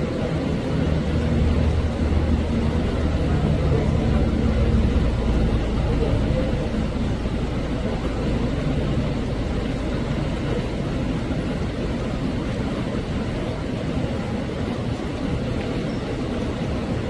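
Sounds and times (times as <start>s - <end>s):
indistinct murmuring voices: 0.0s - 17.0s
low background rumble: 0.0s - 17.0s.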